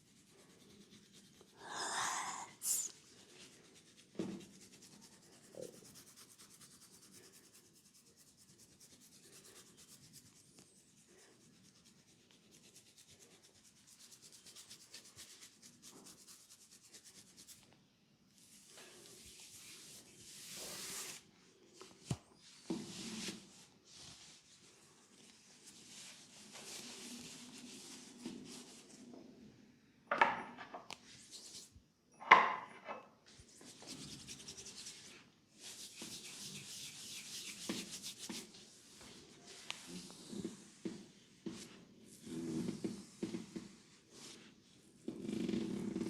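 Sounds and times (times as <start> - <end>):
hands rubbing and scratching head: 0.0 - 29.2, 30.9 - 31.8, 33.2 - 46.0.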